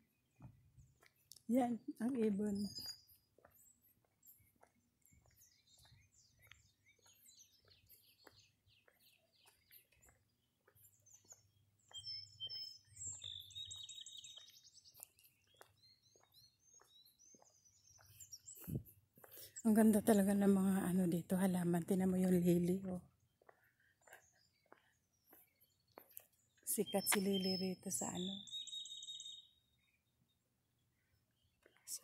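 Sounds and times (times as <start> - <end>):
small birds singing and chirping: 0.0 - 32.0.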